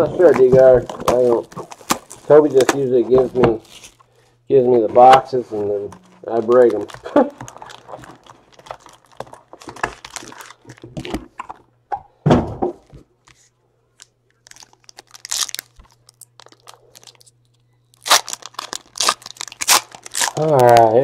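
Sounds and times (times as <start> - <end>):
packaging crinkling and tearing: 0.0 - 4.3, 5.5 - 11.7, 14.0 - 21.0.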